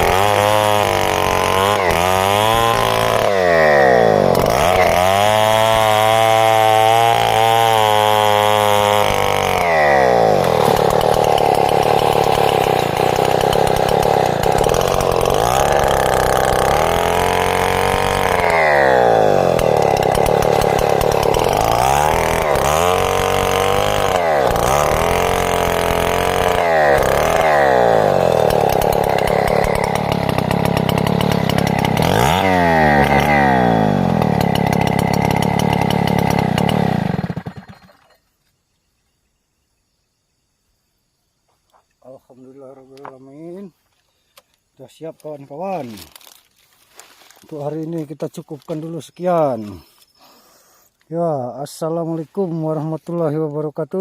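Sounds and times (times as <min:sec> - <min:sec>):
chainsaw sawing timber: 0:00.0 - 0:38.1, 0:45.0 - 0:51.0.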